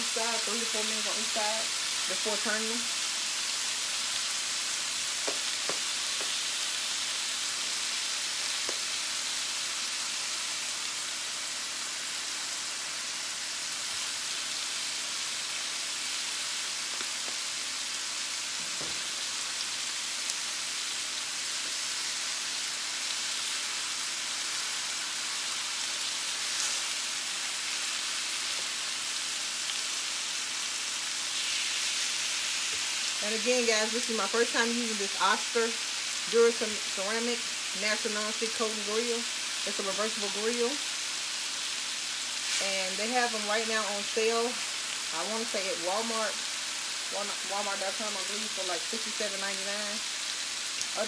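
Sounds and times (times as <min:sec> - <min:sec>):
steaks sizzling on electric grill: 0:00.0 - 0:51.0.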